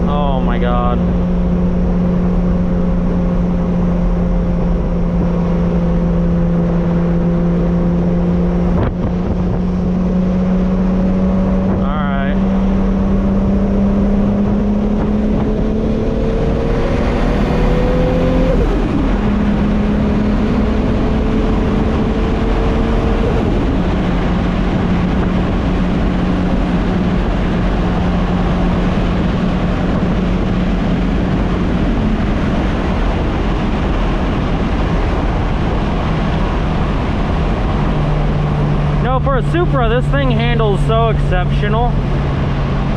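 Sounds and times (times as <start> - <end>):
car engine accelerating through gears: 0.0 - 42.9
road and wind noise: 0.0 - 42.9.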